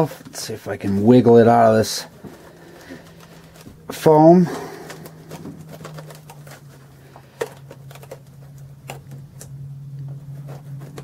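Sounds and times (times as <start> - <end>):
foam packing rustling: 0.0 - 11.0
steady low hum: 0.0 - 11.0.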